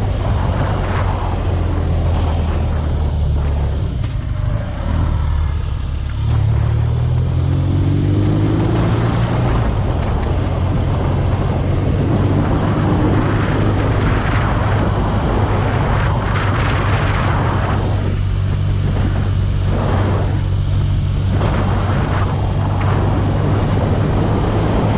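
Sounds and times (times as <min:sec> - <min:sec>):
motorcycle engine revving: 0:00.0 - 0:24.9
wind buffeting microphone: 0:00.0 - 0:24.9.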